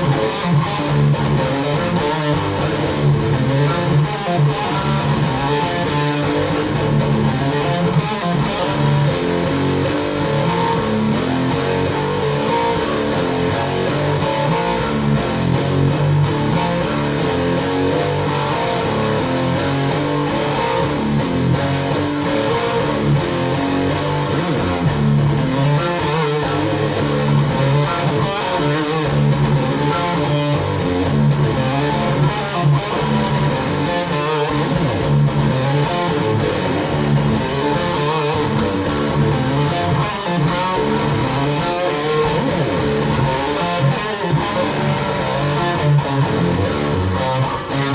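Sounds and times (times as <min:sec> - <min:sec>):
guitar music with bass line: 0:00.0 - 0:47.9.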